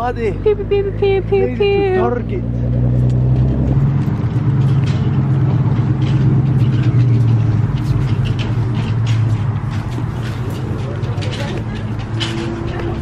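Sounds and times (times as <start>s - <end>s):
vehicle engine running: 0.0s - 13.0s
footsteps on pavement: 0.9s - 13.0s.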